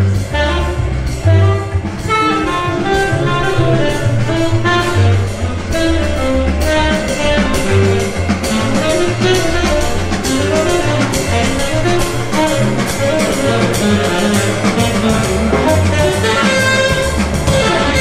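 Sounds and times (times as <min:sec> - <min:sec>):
jazz music with moving bass line: 0:00.0 - 0:18.0.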